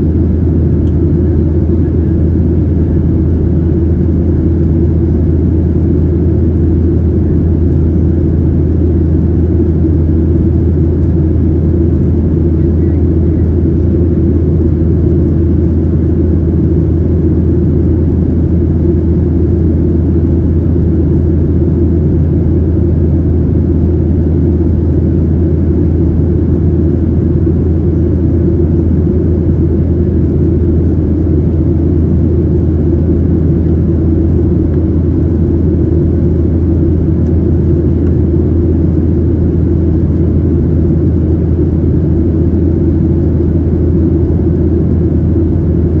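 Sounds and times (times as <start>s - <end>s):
airplane cabin drone: 0.0s - 46.0s.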